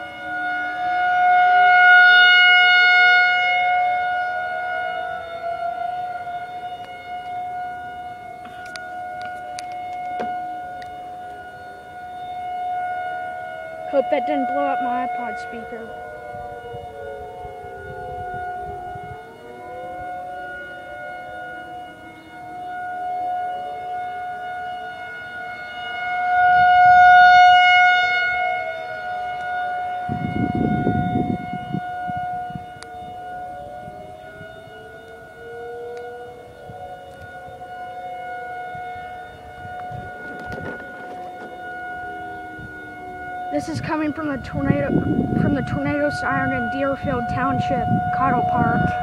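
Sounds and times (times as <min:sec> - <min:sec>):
distant sirens wailing: 0:00.0 - 0:49.0
steady warning siren tone: 0:00.0 - 0:49.0.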